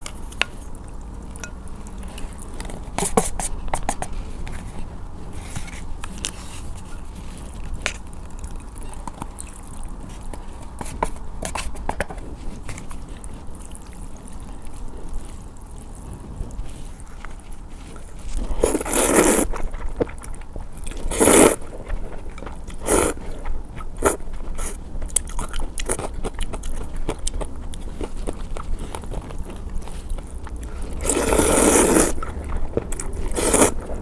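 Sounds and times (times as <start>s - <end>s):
wet chewing and slurping: 0.0s - 34.0s.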